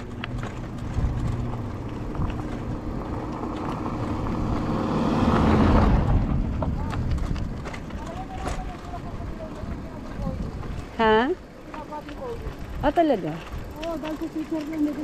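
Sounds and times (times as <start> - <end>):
bicycle rolling on gravel: 0.0 - 15.0
van driving past on gravel: 0.0 - 15.0.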